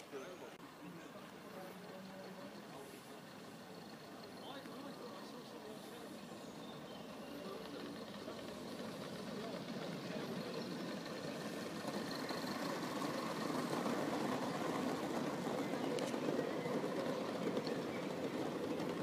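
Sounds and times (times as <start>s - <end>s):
model train wheels rumbling on rails: 0.0s - 19.0s.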